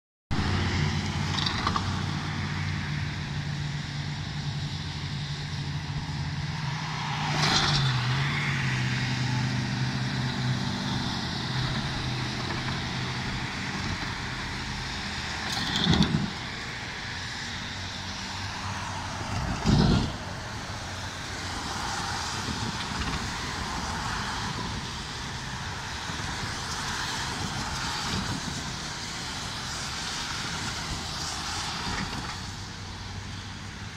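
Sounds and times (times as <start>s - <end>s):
cars swishing past on wet road: 6.2s - 33.9s.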